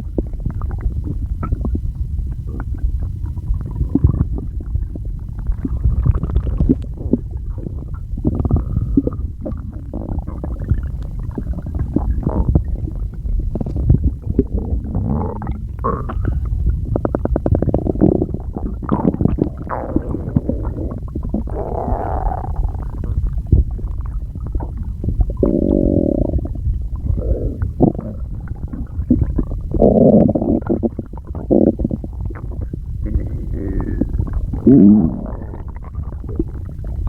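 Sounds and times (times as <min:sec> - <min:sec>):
stomach growling and gurgling: 0:00.0 - 0:37.0.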